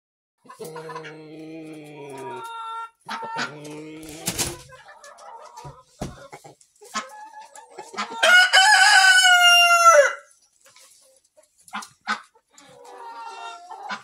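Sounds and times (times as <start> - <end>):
chickens calling: 0.4 - 14.0.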